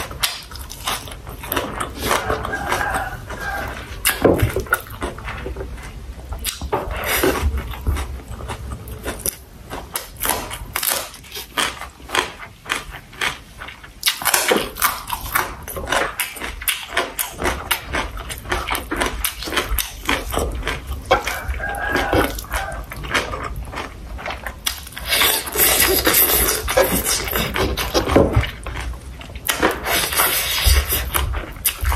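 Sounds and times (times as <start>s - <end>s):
person chewing with wet clicks: 0.0s - 31.9s.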